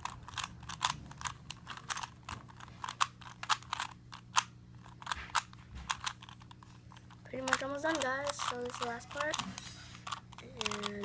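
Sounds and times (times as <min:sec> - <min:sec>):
puzzle cube layers clicking: 0:00.0 - 0:06.5, 0:07.4 - 0:11.0.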